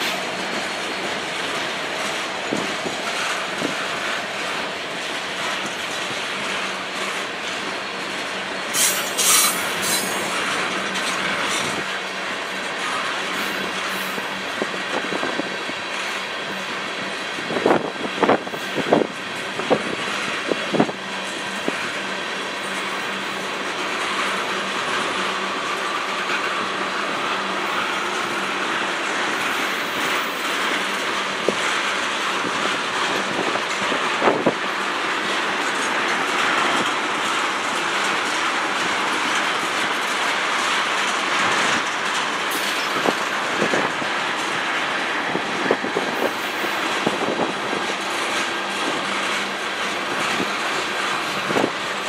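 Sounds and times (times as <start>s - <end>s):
freight train wheels rumbling: 0.0s - 52.0s
wheels clicking over rail joints: 0.0s - 52.0s.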